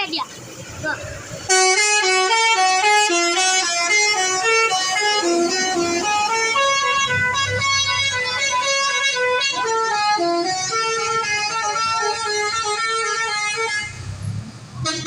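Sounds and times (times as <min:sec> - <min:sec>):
musical bus horn melody: 0:01.5 - 0:14.0.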